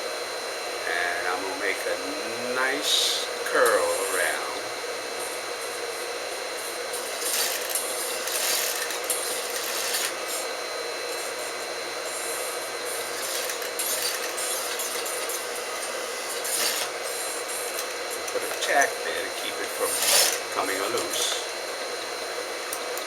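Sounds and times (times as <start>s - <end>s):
sewing machine motor hum: 0.0s - 23.0s.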